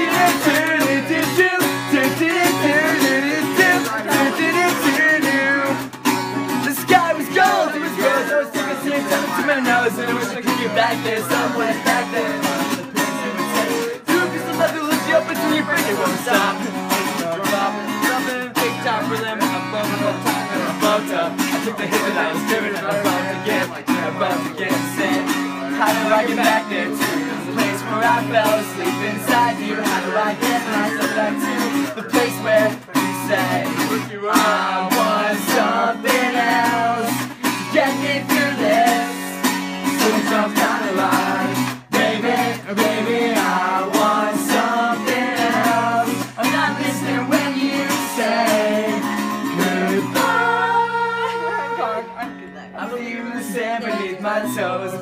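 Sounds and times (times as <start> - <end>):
group of people singing: 0.0 - 55.0
guitar strumming: 0.0 - 55.0.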